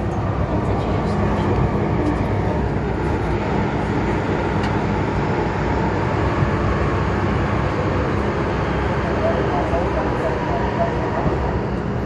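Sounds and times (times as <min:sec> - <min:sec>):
low hum: 0:00.0 - 0:12.0
train wheels rumbling on rail: 0:00.0 - 0:12.0.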